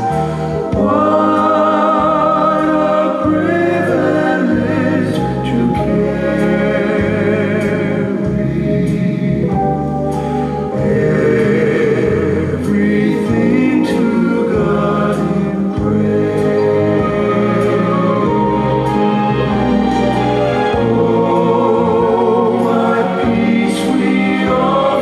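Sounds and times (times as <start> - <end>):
choir singing a hymn: 0.0 - 25.0.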